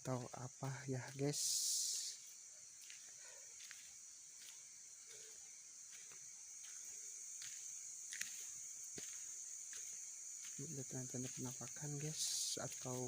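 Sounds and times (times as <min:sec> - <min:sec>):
chorus of night insects: 0:00.0 - 0:13.0
faint light footsteps: 0:00.2 - 0:13.0.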